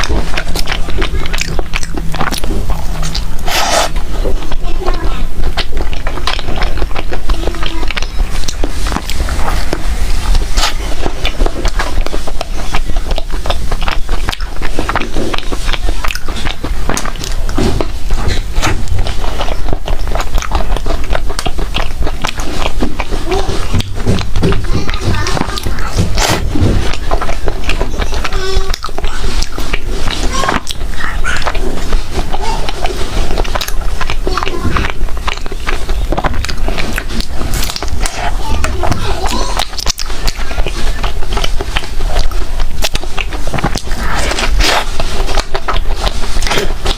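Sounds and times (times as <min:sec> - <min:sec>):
wet mouth smacks and clicks: 0:00.0 - 0:04.6, 0:05.4 - 0:46.9
person biting and chewing food: 0:00.0 - 0:46.9.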